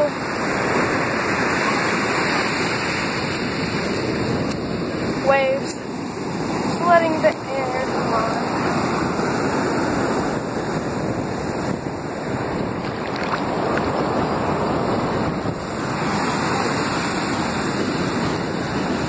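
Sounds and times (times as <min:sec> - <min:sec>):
surf churning around microphone: 0:00.0 - 0:19.0.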